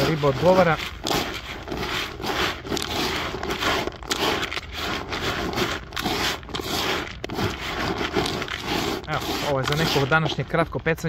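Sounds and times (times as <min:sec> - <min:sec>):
hand mixing wet pellets: 0:00.0 - 0:11.0.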